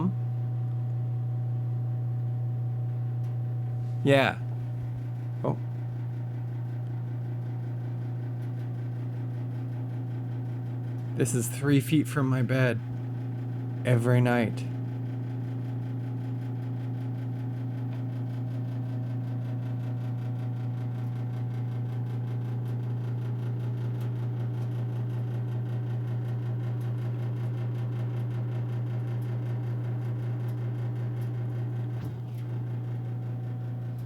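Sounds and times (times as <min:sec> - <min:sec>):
gas heater humming: 0:00.0 - 0:34.0.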